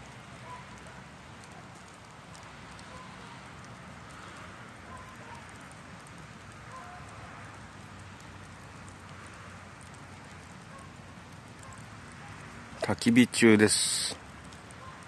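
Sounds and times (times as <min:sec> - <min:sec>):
bonfire crackling and hissing: 0:00.0 - 0:15.0.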